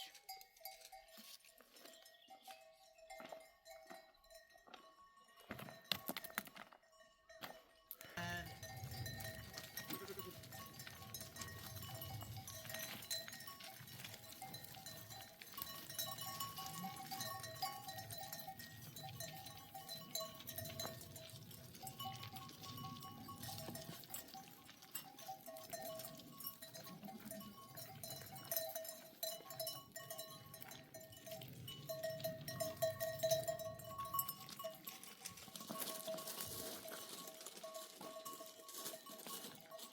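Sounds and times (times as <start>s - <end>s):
animal bells ringing: 0.0s - 39.9s.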